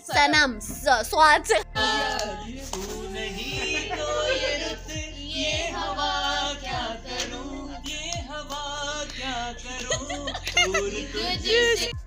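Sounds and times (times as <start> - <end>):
low thudding beat: 0.0 - 12.0
woman singing: 0.0 - 12.0.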